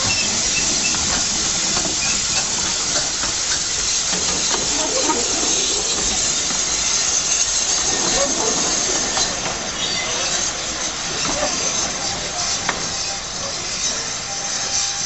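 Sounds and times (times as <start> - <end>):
steam locomotive hissing: 0.0 - 15.0
train coaches rolling past: 0.0 - 15.0.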